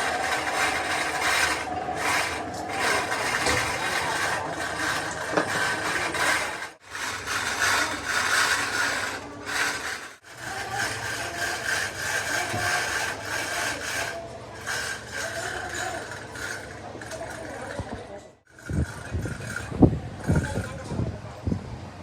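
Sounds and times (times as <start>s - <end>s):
machine grinding with whine: 0.0s - 21.4s.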